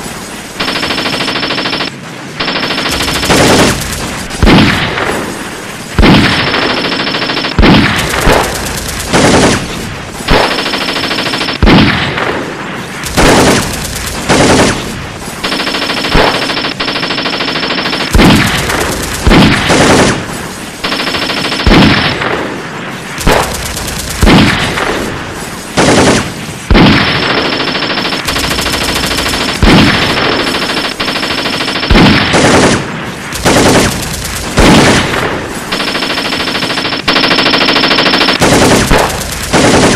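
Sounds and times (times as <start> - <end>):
automatic gunfire bursts: 0.6 - 5.3, 6.0 - 12.3, 13.0 - 22.5, 23.2 - 25.1, 25.8 - 39.9.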